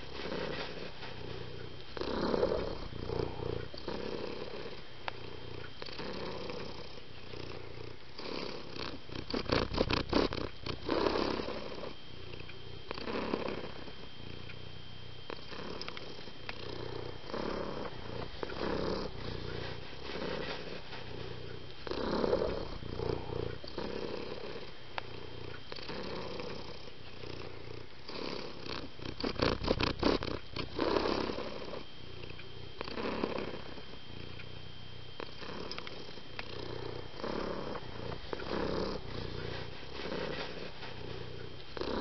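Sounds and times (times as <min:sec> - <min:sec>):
cat purring: 0:00.0 - 0:42.0.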